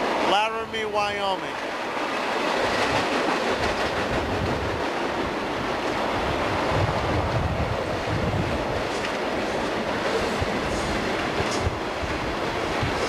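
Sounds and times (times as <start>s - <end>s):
train wheels rumbling on rail: 0.0s - 13.0s
wind buffeting microphone: 1.7s - 13.0s.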